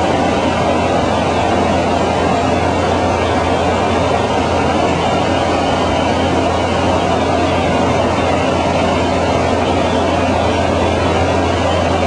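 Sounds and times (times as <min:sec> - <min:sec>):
propeller plane engine drone: 0:00.0 - 0:12.0
rushing noise: 0:00.0 - 0:12.0.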